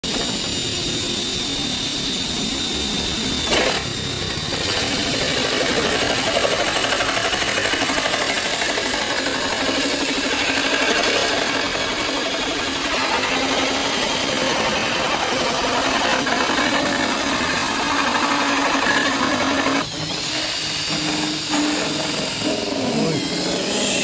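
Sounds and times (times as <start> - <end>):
electric drill motor whine: 0.0 - 24.0
hole saw cutting wood: 3.4 - 24.0.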